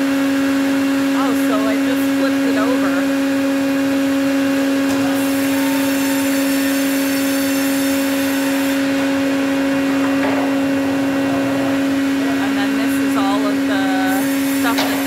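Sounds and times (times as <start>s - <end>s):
sawmill machine humming: 0.0s - 15.0s.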